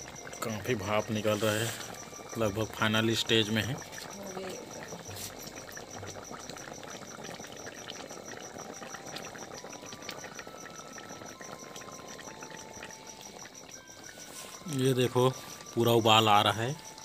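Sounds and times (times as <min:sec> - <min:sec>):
cricket chirping: 0:00.0 - 0:17.0
curry bubbling: 0:00.0 - 0:17.0.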